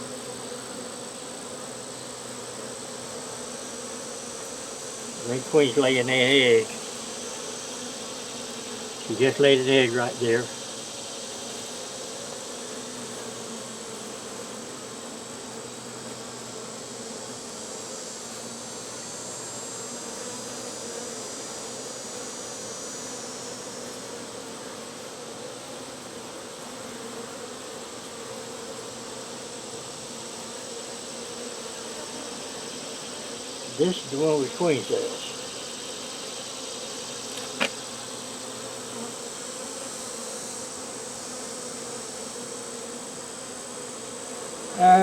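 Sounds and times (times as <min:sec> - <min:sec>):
honey bees buzzing: 0:00.0 - 0:45.0.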